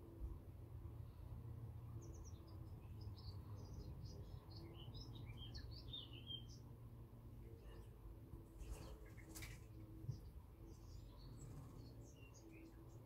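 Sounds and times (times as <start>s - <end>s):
songbird singing: 1.0s - 13.0s.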